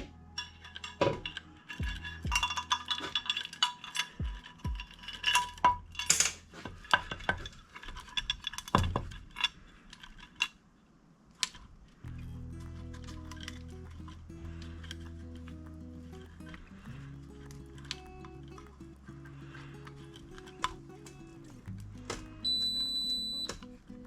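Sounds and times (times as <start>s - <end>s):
metal tools clinking: 0.0s - 10.6s, 12.1s - 24.0s.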